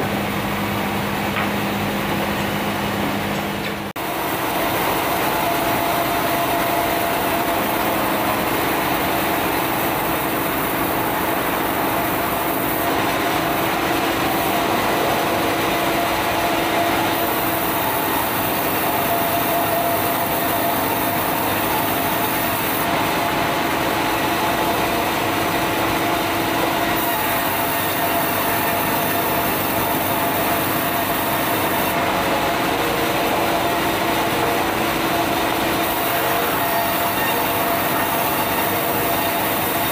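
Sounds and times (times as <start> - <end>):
band saw cutting wood: 4.0 - 39.9.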